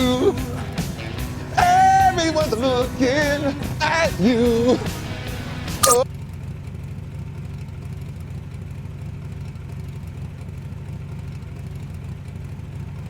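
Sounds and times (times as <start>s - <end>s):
idling car engines: 0.0s - 13.0s.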